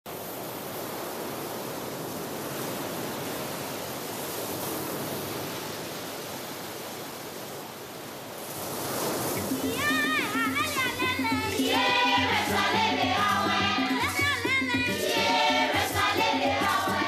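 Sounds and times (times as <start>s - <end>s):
ocean waves rushing: 0.1s - 17.0s.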